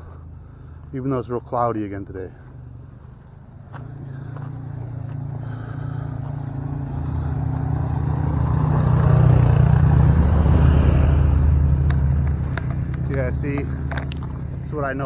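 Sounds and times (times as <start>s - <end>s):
vehicle engine driving past: 2.4s - 15.0s.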